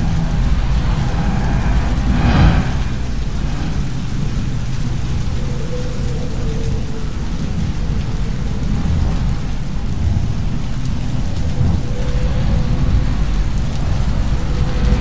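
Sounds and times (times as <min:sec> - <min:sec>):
dense low rumble with crackle: 0:00.0 - 0:15.0
faint hum: 0:00.0 - 0:15.0.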